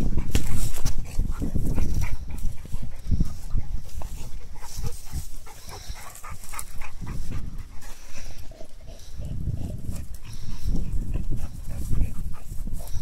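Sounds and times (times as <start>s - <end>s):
dog panting: 0.0s - 13.0s
low microphone rumble: 0.0s - 13.0s.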